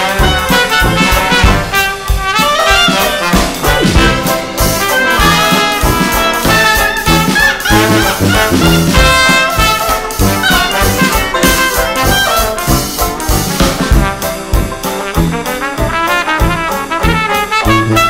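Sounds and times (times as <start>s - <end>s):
swing jazz brass band: 0.0s - 18.0s.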